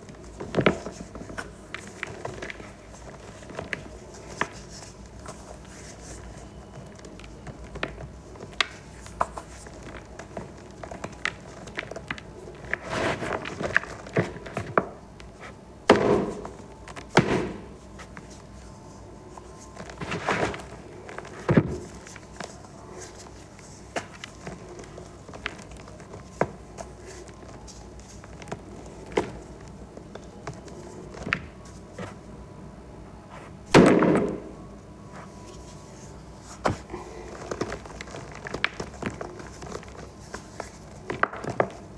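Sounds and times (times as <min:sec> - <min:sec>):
chalk balls being crushed: 0:00.1 - 0:32.2, 0:33.7 - 0:41.9.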